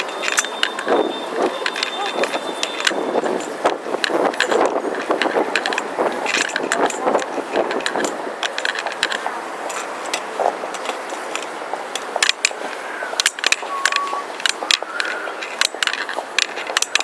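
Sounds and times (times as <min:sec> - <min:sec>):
sharp clicks and rattles: 0:00.0 - 0:17.0
traffic: 0:00.0 - 0:17.0.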